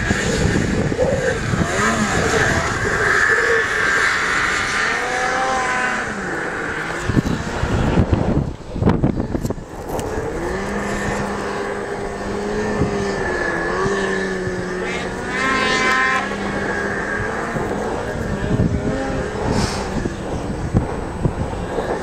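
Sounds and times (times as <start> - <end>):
snowmobile engines revving: 0.0 - 22.0
wind buffeting microphone: 0.0 - 22.0.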